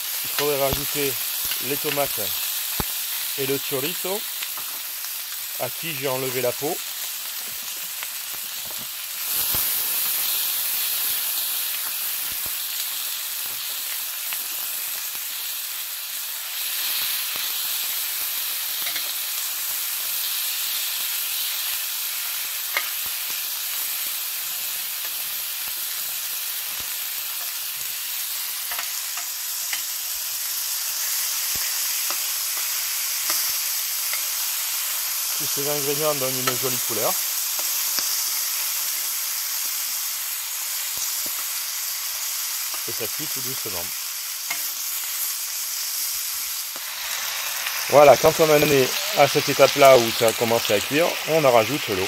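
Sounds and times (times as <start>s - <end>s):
food sizzling in oil: 0.0s - 52.0s.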